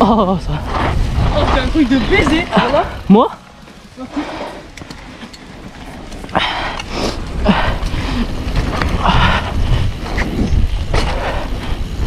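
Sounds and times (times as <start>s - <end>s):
wind and tyre noise: 0.0s - 12.0s.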